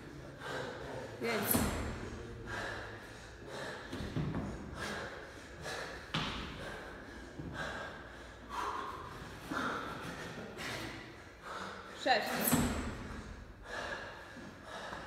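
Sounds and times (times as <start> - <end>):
hard rapid breathing: 0.1 - 15.0.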